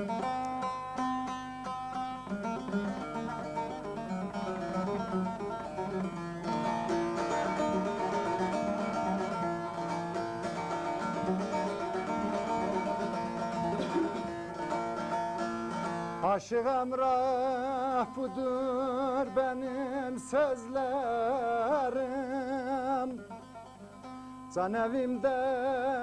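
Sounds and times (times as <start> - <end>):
plucked long-necked lute melody: 0.0 - 26.0.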